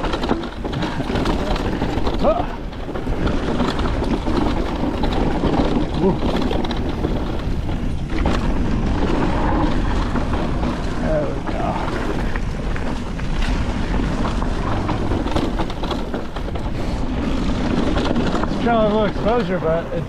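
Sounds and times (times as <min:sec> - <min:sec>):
bike knocks and rattles: 0:00.0 - 0:20.0
bike tyres rolling on dirt: 0:00.0 - 0:20.0
wind rushing over microphone: 0:00.0 - 0:20.0.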